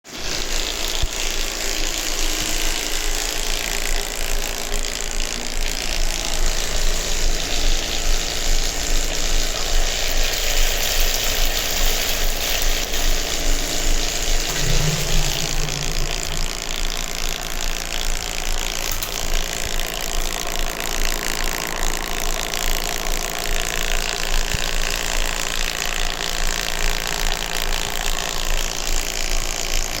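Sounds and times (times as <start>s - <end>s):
electric water pump running: 0.0s - 30.0s.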